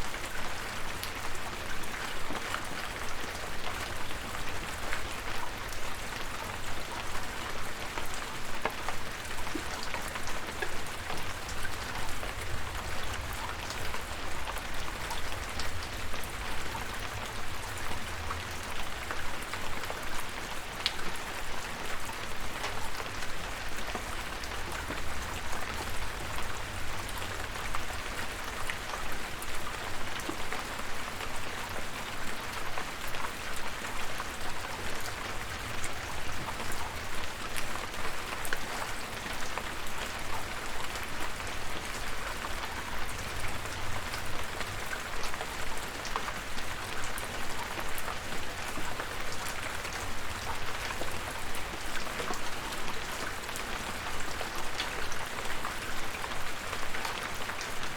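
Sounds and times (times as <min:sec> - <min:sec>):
rain ticking on hard surface: 0:00.0 - 0:57.9.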